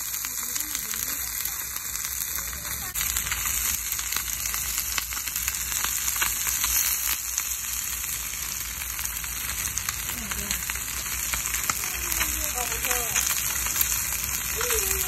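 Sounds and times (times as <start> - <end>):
crackles and pops: 0.0 - 15.0
food sizzling in a pan: 0.0 - 15.0.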